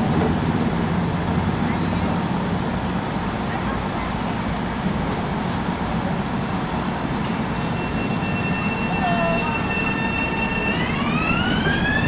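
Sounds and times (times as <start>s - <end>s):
electric train rumble: 0.0s - 12.0s
high whine from train: 0.0s - 12.0s.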